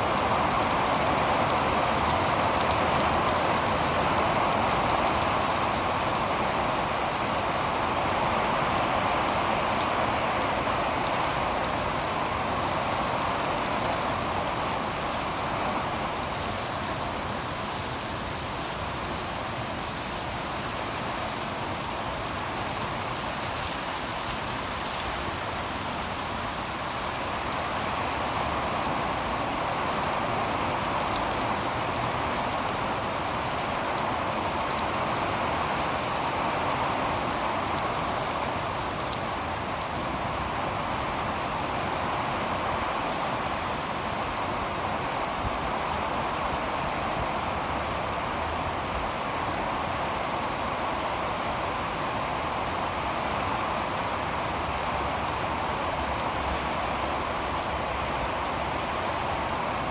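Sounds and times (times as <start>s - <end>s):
heavy rain on wet asphalt: 0.0s - 59.9s.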